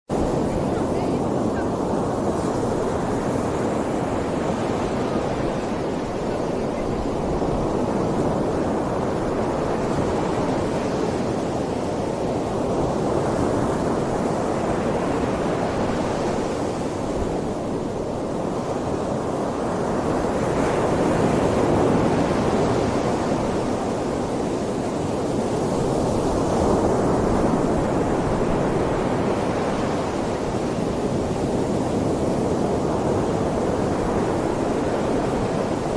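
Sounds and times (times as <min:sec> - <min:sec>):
wind rushing through trees: 0:00.1 - 0:35.9.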